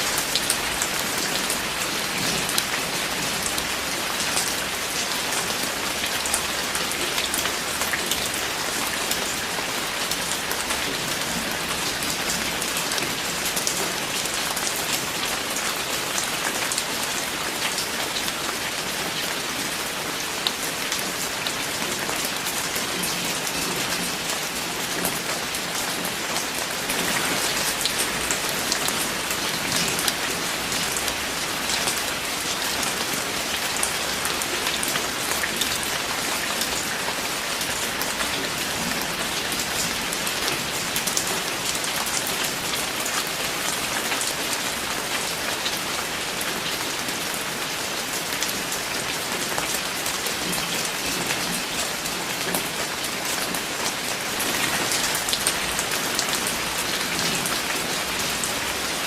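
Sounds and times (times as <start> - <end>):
rain pattering on a surface: 0.0 - 59.0.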